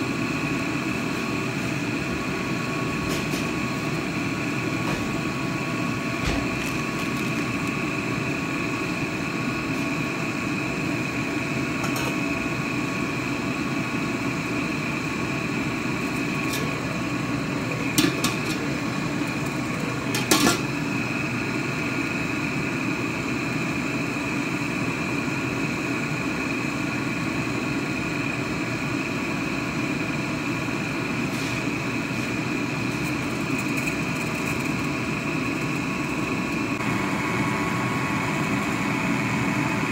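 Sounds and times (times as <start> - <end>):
steady hum and hiss: 0.0 - 39.9.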